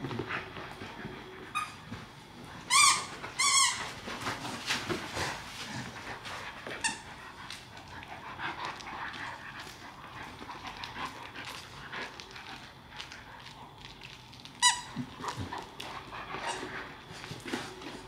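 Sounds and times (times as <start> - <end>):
dogs scuffling and mouthing: 0.0 - 18.0.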